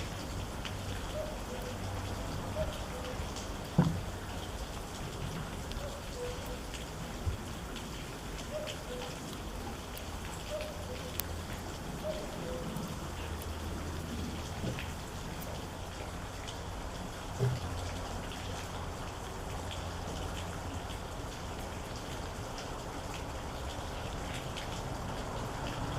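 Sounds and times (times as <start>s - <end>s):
raindrops ticking close by: 0.0s - 25.9s
steady rain falling: 0.0s - 25.9s.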